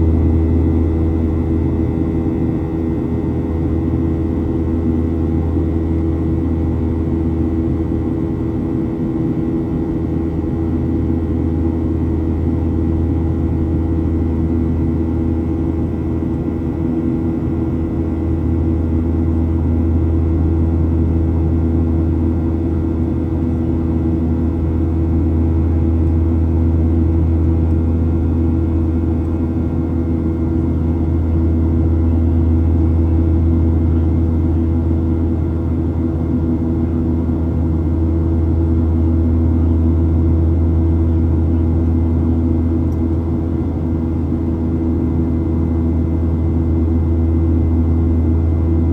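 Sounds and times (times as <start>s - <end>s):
airplane cabin drone: 0.0s - 48.9s.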